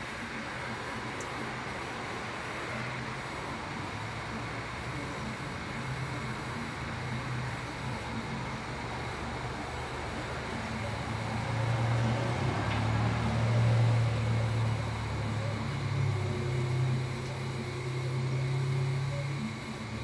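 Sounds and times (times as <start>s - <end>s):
steady background hiss: 0.0s - 20.0s
stepper motors humming: 0.0s - 20.0s.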